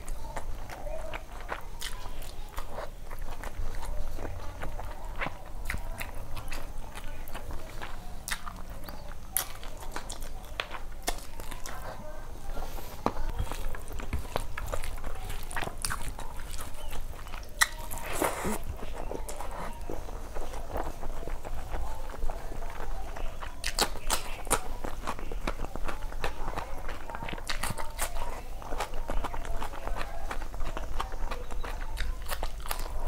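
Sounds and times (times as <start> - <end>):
chewing with wet smacks: 0.0 - 33.0.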